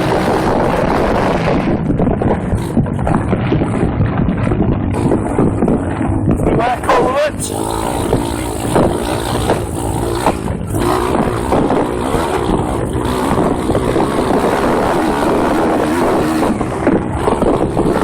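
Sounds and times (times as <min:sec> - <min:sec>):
pit bike engine revving: 0:00.0 - 0:03.9, 0:07.4 - 0:18.0
wind buffeting microphone: 0:00.0 - 0:18.0.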